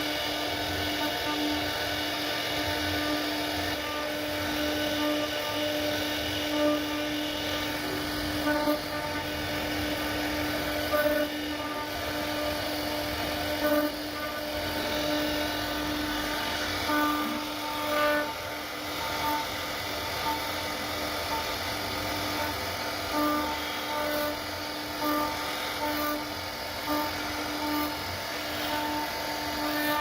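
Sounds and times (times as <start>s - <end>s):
router spindle whining: 0.0s - 30.0s.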